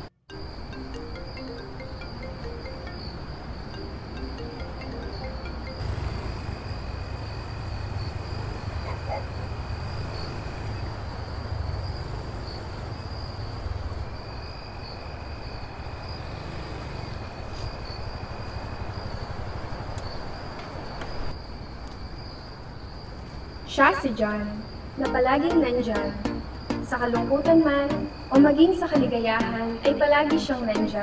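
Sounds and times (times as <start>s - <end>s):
crickets trilling: 0.0s - 31.0s
lower insect trill: 0.0s - 31.0s.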